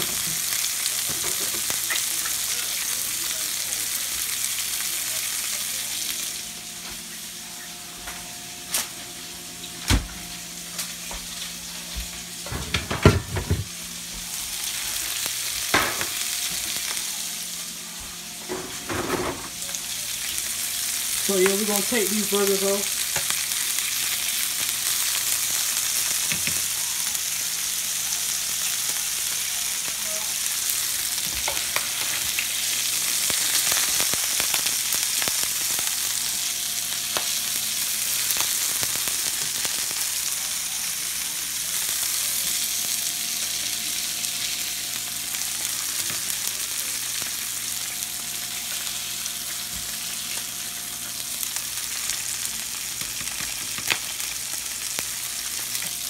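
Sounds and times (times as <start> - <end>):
burgers sizzling in grease: 0.0 - 56.0.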